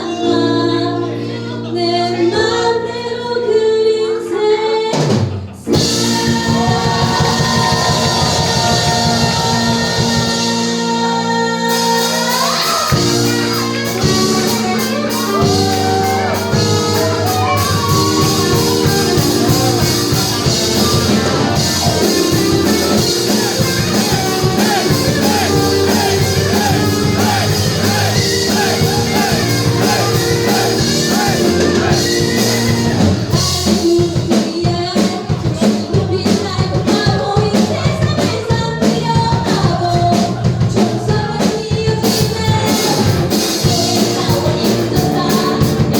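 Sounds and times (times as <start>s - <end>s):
person singing: 0.0s - 38.4s
drums: 4.9s - 45.9s
live rock band: 4.9s - 45.9s.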